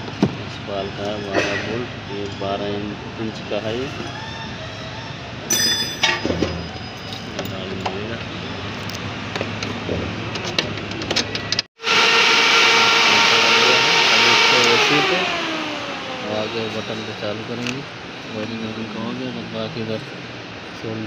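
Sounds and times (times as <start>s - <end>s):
radiator cooling fan whirring: 0.0s - 21.0s.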